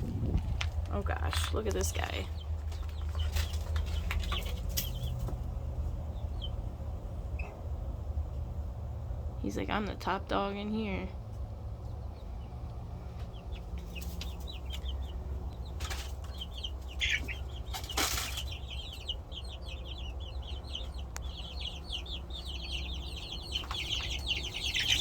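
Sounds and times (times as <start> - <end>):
chicks peeping: 0.0 - 25.0
steady low rumble: 0.0 - 25.0.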